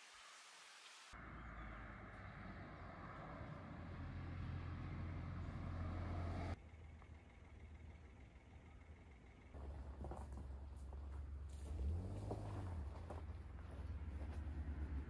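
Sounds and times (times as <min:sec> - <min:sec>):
faint outdoor background sound: 0:00.0 - 0:15.0
vehicle engine humming: 0:01.2 - 0:15.0.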